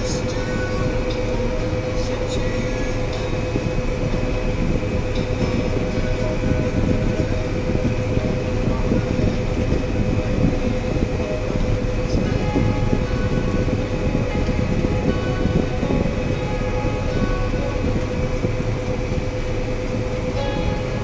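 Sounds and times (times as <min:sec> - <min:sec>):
combine harvester rumbling: 0:00.0 - 0:21.0
steady machine whine: 0:00.0 - 0:21.0.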